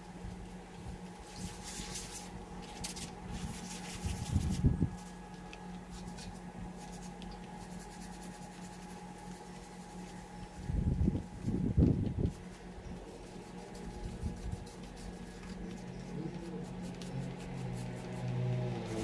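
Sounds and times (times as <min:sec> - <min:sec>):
steady low hum: 0:00.0 - 0:19.0
brush scrubbing metal: 0:01.2 - 0:10.6, 0:11.3 - 0:19.0.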